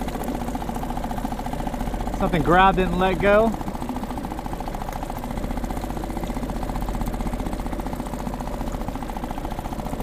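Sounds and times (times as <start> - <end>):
small motor pulsing: 0.0 - 10.0.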